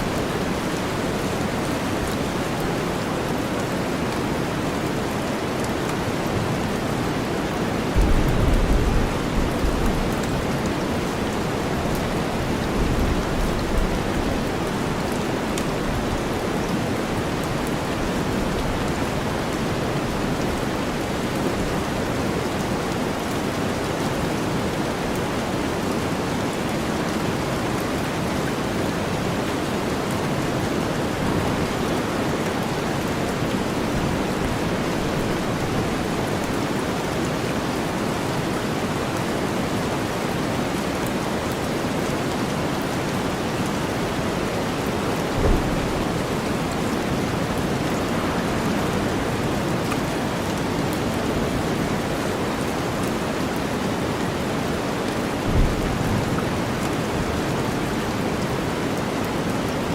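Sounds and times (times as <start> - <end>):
raindrops pattering: 0.0 - 59.9
steady rain: 0.0 - 59.9.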